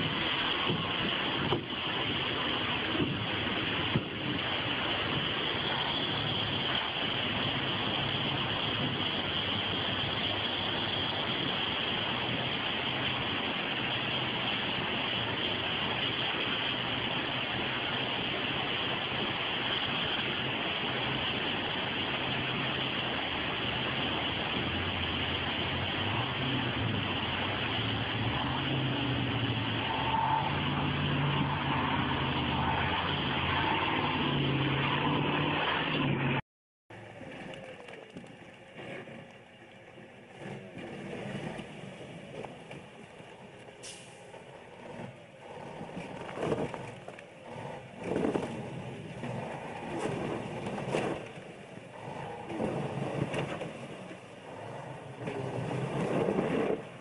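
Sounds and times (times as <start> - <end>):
rushing river water: 0.0 - 57.0
truck engine running under load: 0.0 - 57.0.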